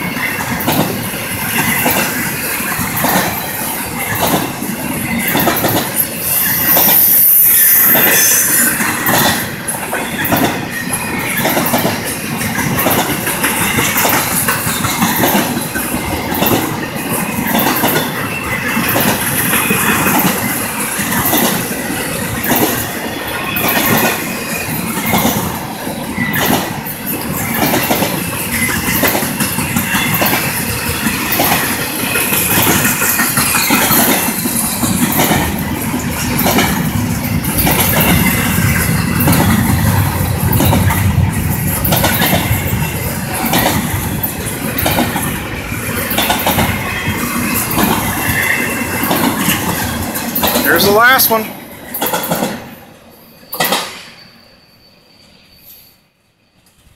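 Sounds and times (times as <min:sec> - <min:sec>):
train wheels clacking on rail joints: 0:00.0 - 0:07.2, 0:07.8 - 0:52.8, 0:53.5 - 0:54.2.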